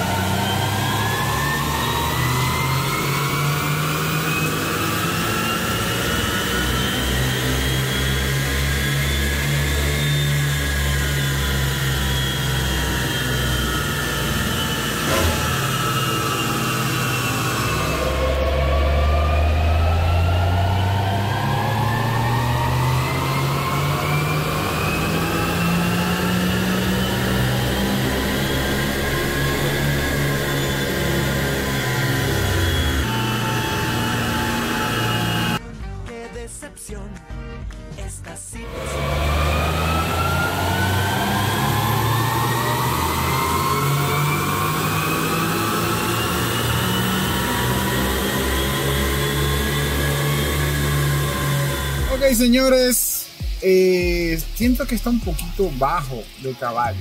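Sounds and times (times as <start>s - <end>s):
car engine revving under load: 0.0s - 35.6s, 38.7s - 53.4s.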